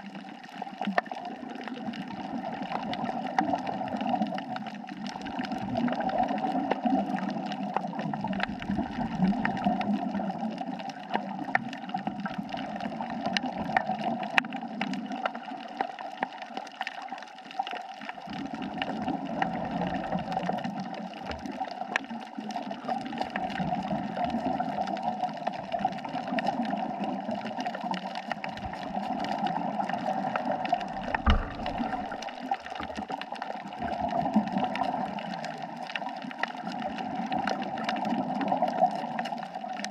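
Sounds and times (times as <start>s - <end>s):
gurgling water murmur: 0.0s - 39.9s.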